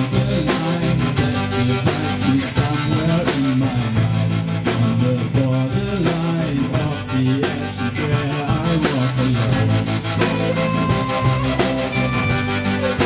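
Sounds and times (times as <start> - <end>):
bass guitar: 0.0 - 13.0
drum kit beat: 0.0 - 13.0
electric guitar: 0.0 - 13.0
person singing: 0.0 - 13.0.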